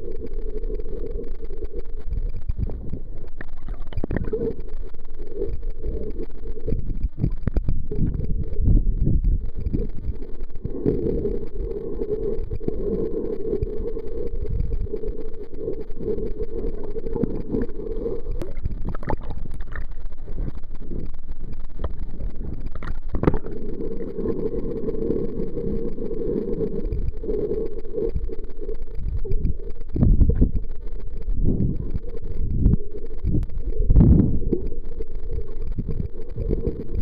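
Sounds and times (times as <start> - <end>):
muffled rushing water: 0.0 - 37.0.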